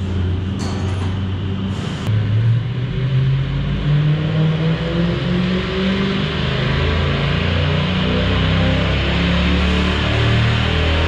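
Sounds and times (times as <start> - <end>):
car engine revving on dynamometer: 2.1 - 11.0.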